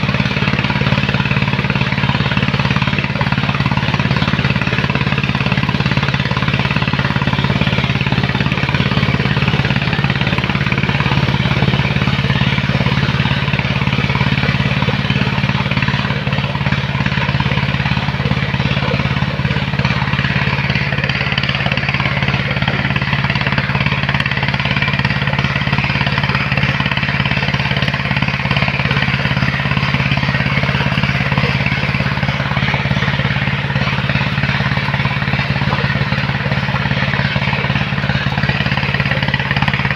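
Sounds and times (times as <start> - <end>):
heavy machinery engine humming: 0.0 - 39.9.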